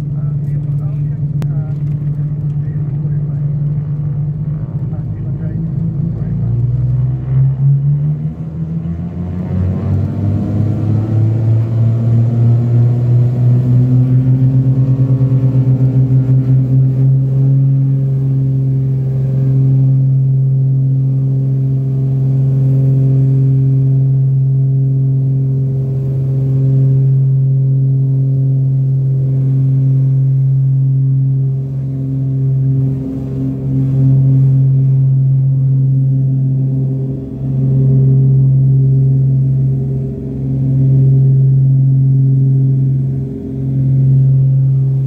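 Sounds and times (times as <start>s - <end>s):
aircraft engines and propellers droning: 0.0s - 45.0s.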